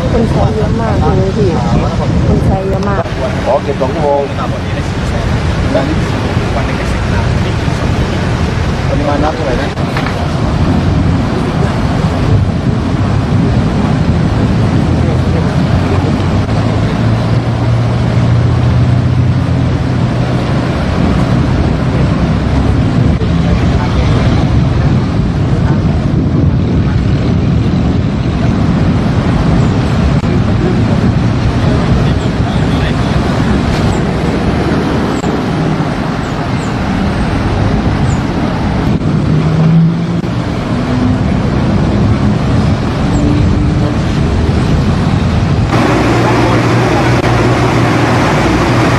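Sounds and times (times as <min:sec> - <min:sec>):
drone of many engines: 0:00.0 - 0:48.9
motors rumbling: 0:00.0 - 0:48.9
river water churning: 0:00.0 - 0:48.9.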